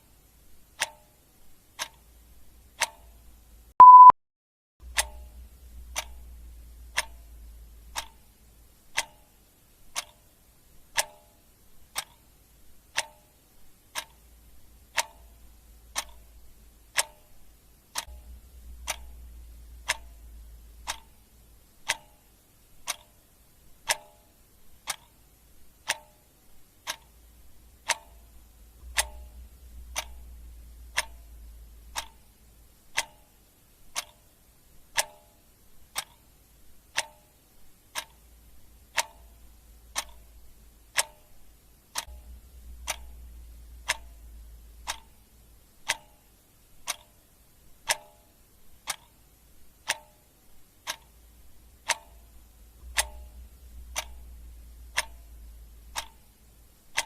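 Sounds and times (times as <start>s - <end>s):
clock ticking: 0.0s - 4.1s, 4.8s - 57.0s
faint low hum: 4.8s - 57.0s.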